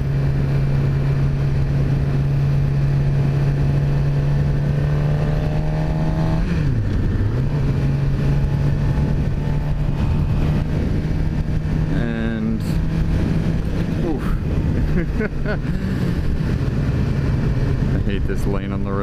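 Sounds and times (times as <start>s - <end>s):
low rumble: 0.0s - 19.0s
motorcycle engine cruising: 0.0s - 19.0s.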